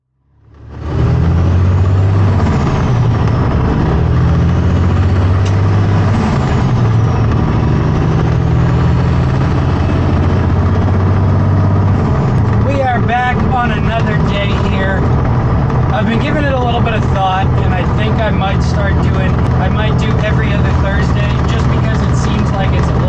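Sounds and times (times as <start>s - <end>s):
diesel truck engine running: 0.2s - 23.0s.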